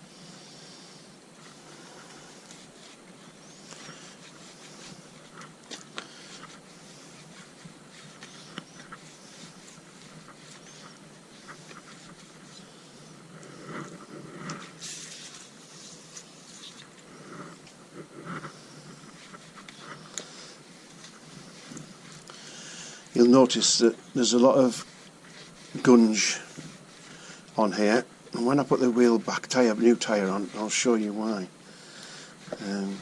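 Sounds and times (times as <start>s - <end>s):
towel wiping rim: 0.4s - 33.0s.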